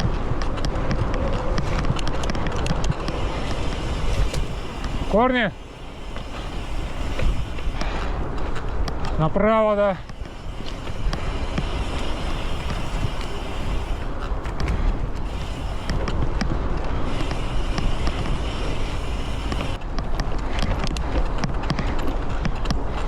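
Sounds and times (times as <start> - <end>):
bike clicks and rattles: 0.0 - 23.0
bike tyre rumble: 0.0 - 23.0
wind buffeting microphone: 0.0 - 23.0.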